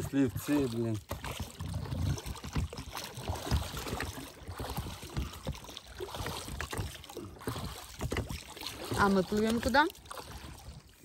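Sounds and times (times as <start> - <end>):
oars knocking against boat: 0.0 - 11.0
water splashes from rowing: 0.0 - 11.0.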